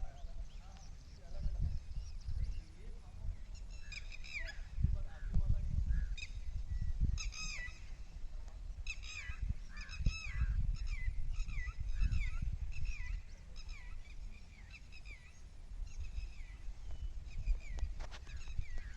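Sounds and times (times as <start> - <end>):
wind rumble on microphone: 0.0 - 18.9.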